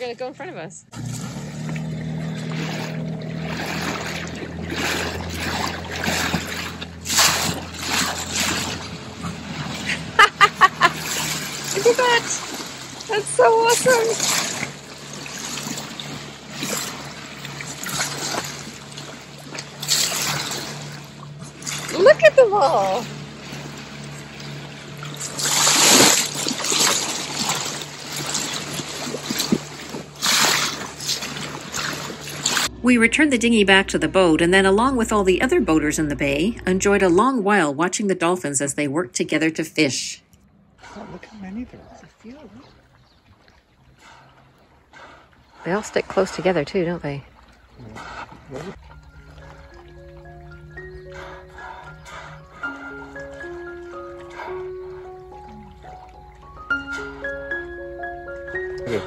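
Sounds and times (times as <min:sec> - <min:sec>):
outboard motor humming: 0:00.0 - 0:59.0
water splashing and sloshing: 0:00.0 - 0:59.0.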